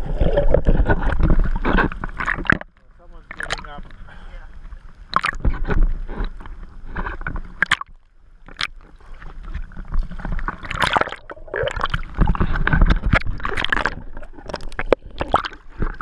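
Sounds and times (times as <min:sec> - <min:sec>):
sea water sloshing and splashing: 0:00.0 - 0:16.0.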